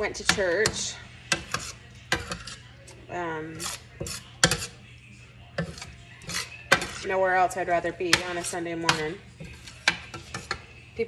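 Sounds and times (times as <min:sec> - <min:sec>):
metal spoon scraping a skillet: 0:00.0 - 0:11.0.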